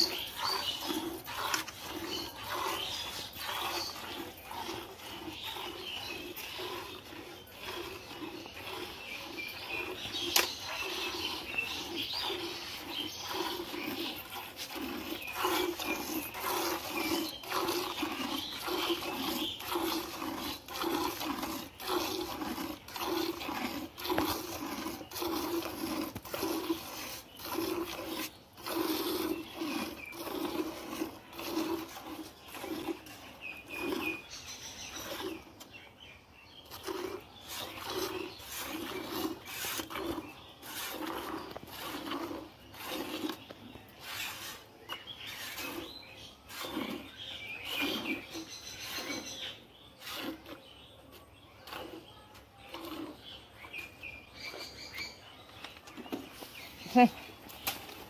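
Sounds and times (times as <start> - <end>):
milk squirting into metal bucket: 0.0 - 35.8, 36.6 - 50.8, 51.6 - 53.9.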